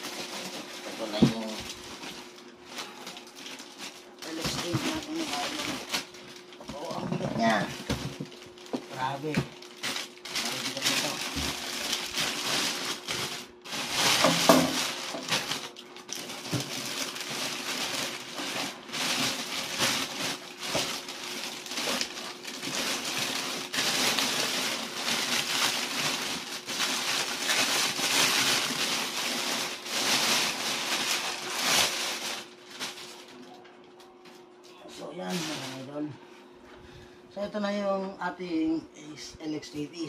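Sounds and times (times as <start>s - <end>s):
plastic packaging crinkling: 0.0s - 36.1s.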